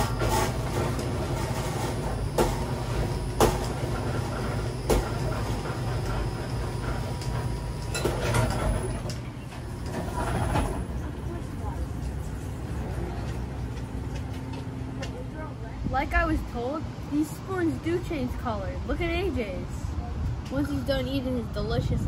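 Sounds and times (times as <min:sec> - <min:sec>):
shop equipment humming: 0:00.0 - 0:20.5.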